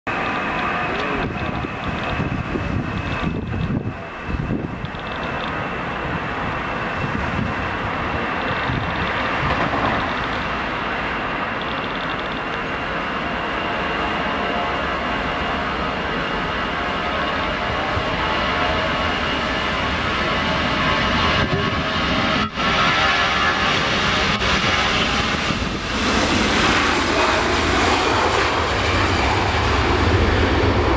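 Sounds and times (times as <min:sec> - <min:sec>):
jet engines roaring at takeoff: 0:00.1 - 0:30.9.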